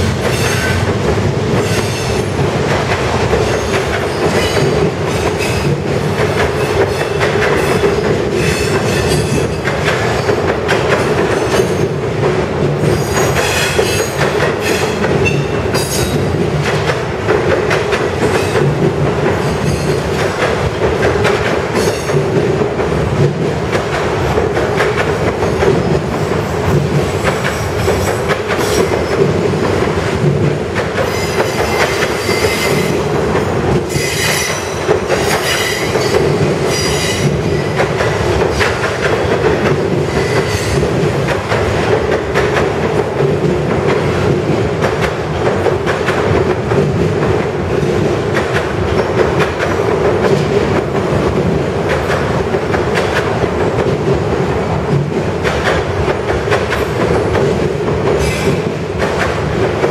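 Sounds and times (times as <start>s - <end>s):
rail joint clacks: 0.0s - 59.9s
steel wheels rumbling on rail: 0.0s - 59.9s.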